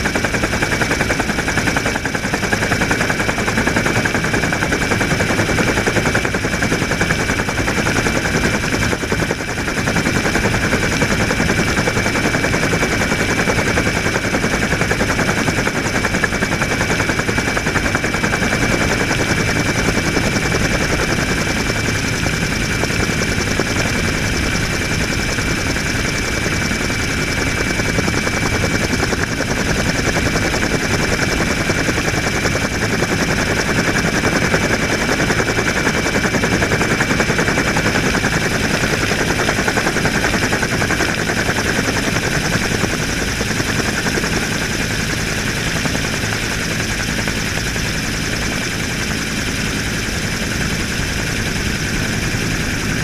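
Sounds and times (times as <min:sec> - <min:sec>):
helicopter rotor blades beating: 0:00.0 - 0:53.0
high turbine whine: 0:00.0 - 0:53.0.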